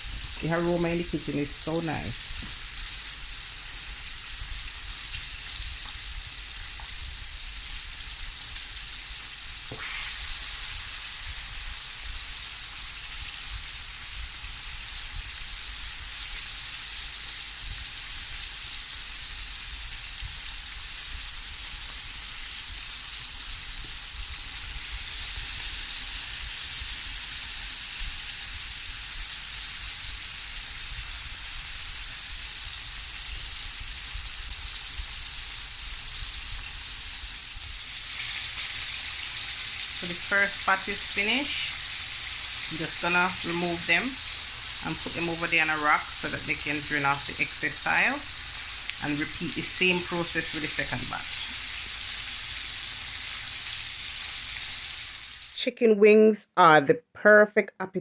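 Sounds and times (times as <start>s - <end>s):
chicken deep-frying in oil: 0.0s - 55.6s.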